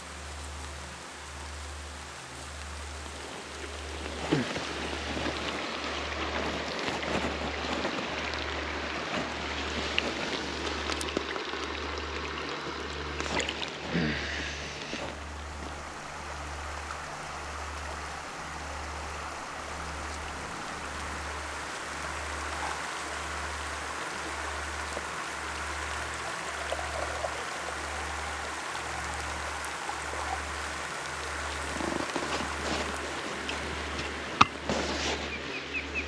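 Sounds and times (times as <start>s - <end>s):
rain falling: 0.0s - 36.0s
rocky river flowing: 0.0s - 36.0s.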